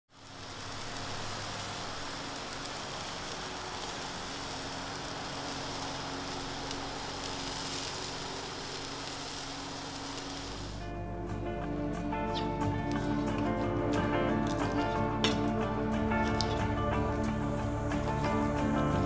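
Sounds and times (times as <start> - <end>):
meat sizzling on a grill: 0.1 - 10.9, 11.6 - 19.0.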